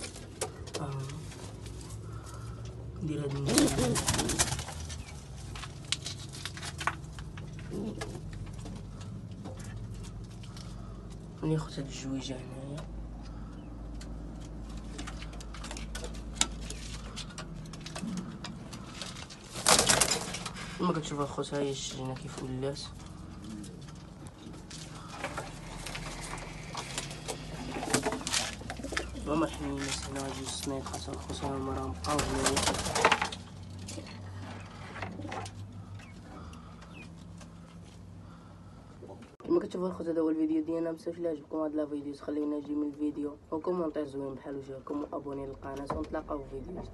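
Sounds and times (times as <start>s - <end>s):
pigeons chirping: 0.0s - 11.8s, 13.1s - 39.0s
low steady hum: 0.0s - 46.9s.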